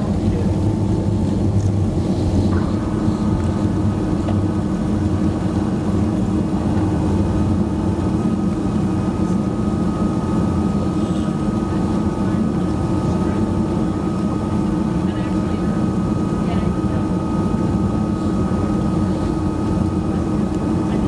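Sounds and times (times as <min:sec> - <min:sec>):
jet cabin engine drone: 0:00.0 - 0:21.0.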